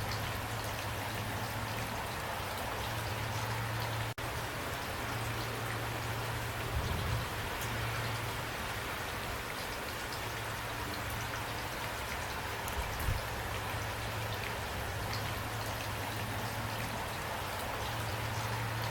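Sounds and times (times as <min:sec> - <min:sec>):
steady rain falling: 0:00.0 - 0:18.9.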